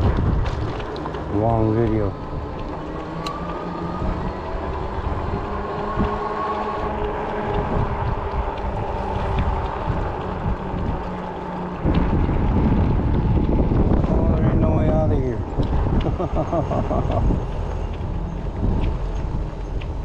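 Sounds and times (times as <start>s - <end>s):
bike tyres rolling: 0.0s - 20.0s
electric motor whine: 0.0s - 20.0s
wind rumble on microphone: 0.0s - 20.0s.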